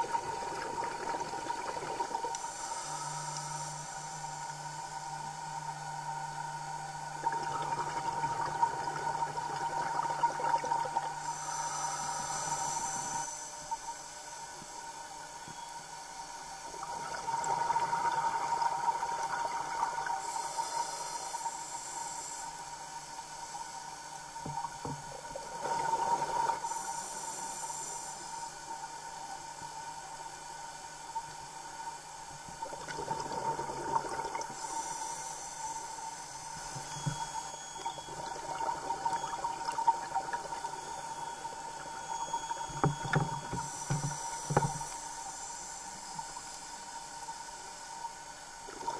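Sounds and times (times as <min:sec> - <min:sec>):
regulator hiss: 0:00.0 - 0:48.9
steady hum: 0:00.0 - 0:48.9.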